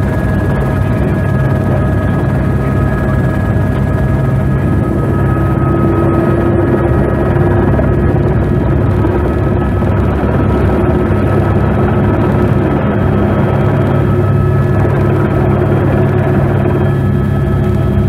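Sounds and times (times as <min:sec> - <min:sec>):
helicopter engine and rotor running: 0:00.0 - 0:18.0.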